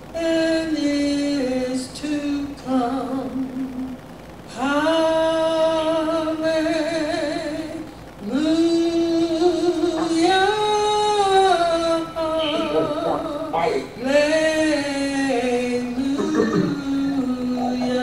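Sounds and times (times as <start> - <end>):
person singing without words: 0.2 - 18.0.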